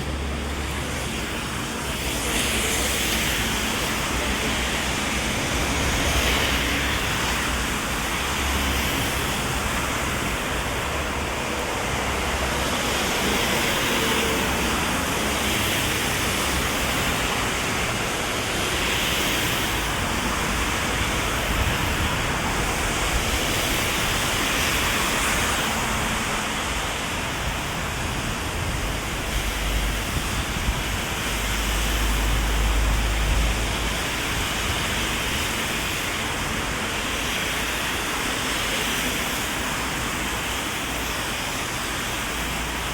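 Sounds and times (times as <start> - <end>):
heavy rain on an umbrella: 0.0 - 42.9.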